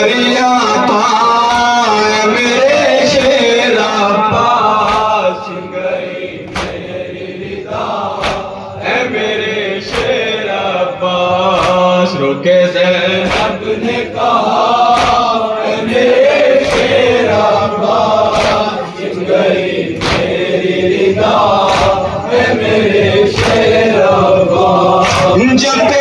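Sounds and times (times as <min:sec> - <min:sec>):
men chanting in chorus: 0:00.0 - 0:26.0.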